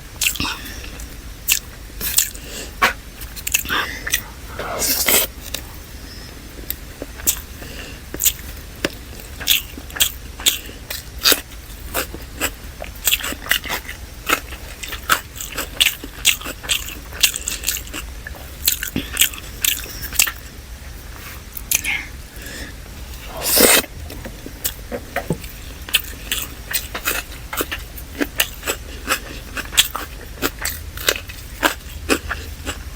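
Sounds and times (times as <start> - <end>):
close chewing with crunchy bites: 0.0 - 32.9.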